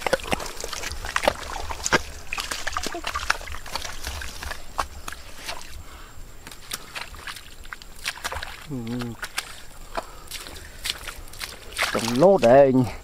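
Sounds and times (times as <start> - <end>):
splashing in muddy water: 0.0 - 13.0.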